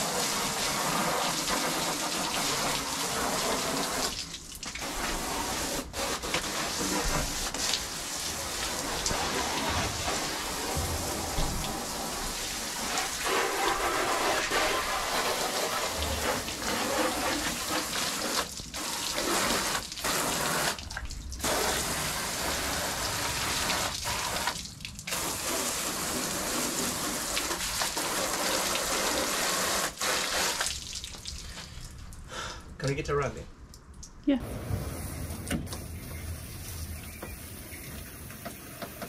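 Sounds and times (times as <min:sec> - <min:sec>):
water spraying from hose nozzle: 0:00.0 - 0:32.1, 0:34.7 - 0:39.0.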